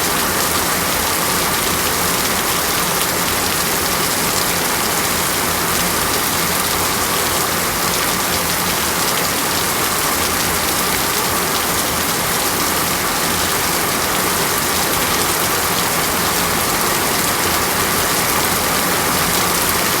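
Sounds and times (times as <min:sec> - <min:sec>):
heavy rain on hard surfaces: 0:00.0 - 0:20.0.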